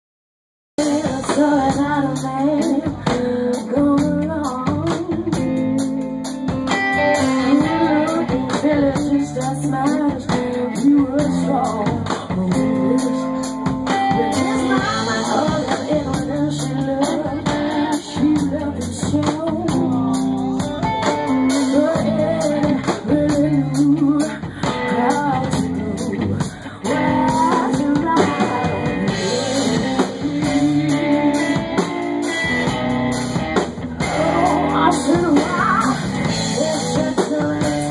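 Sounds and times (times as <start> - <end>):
person singing: 0.8 - 33.3, 34.0 - 37.9
live blues-rock band: 0.8 - 37.9.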